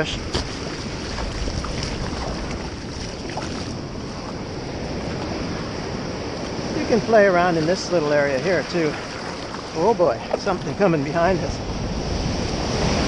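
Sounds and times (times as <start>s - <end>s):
surf rushing around kayak hull: 0.0s - 13.0s
wind on microphone: 0.0s - 13.0s.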